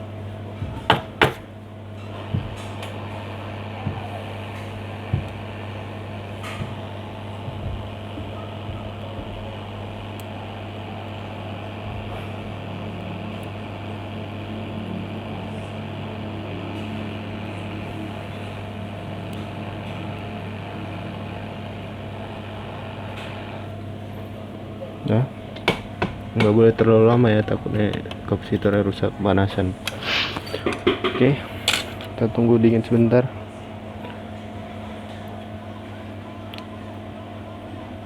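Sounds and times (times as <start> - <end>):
hot air blower fan hum: 0.0 - 38.0.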